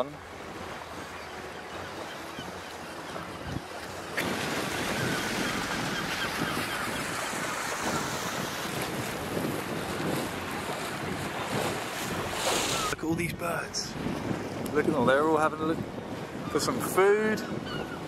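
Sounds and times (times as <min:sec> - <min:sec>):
moving water: 0:00.0 - 0:18.0
wind on microphone: 0:00.3 - 0:18.0.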